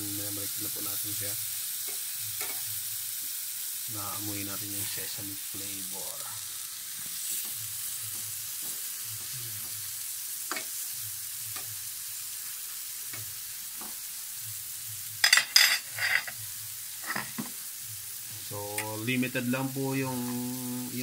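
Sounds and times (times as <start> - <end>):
hot dogs sizzling on grill pan: 0.0 - 21.0.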